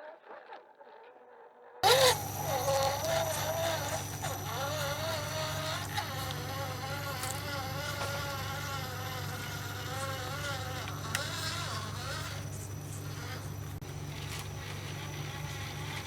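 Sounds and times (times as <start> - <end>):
small electric motor whining: 1.8 - 16.0.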